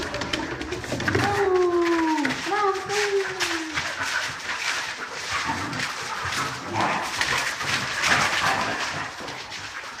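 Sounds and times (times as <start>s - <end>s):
dogs scuffling on hard floor: 0.0s - 10.0s.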